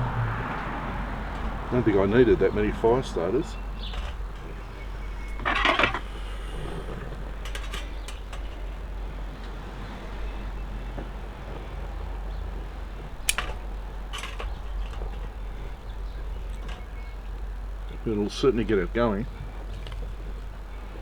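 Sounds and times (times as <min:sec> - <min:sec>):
fire rumbling: 0:00.0 - 0:21.0
fire crackling: 0:02.6 - 0:21.0.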